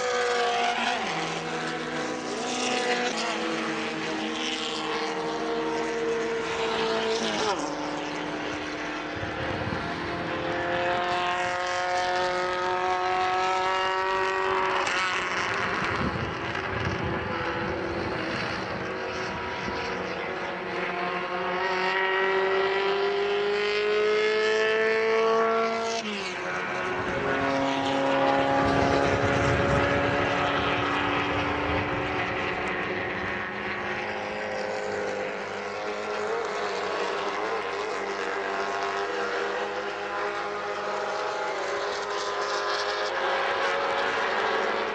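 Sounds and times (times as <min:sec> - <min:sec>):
race car engines at high revs: 0:00.0 - 0:44.9.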